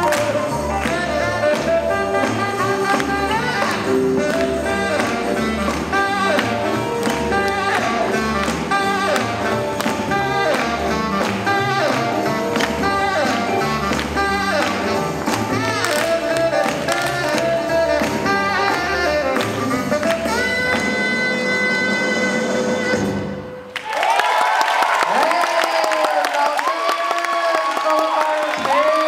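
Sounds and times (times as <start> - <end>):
swing jazz band playing: 0.0 - 23.6.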